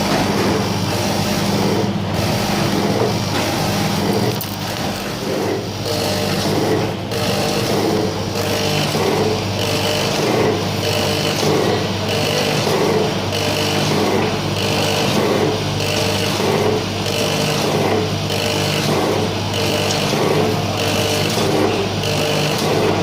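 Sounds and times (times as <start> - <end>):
motor hum: 0.0 - 23.0
packing machine mechanical cycle: 0.0 - 23.0.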